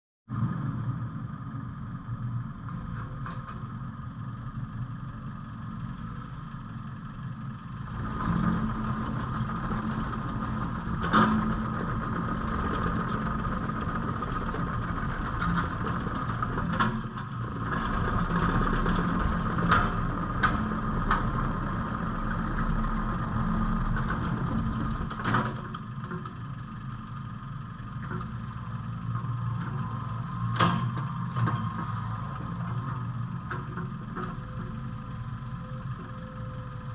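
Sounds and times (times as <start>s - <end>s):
excavator diesel engine running: 0.3s - 36.9s.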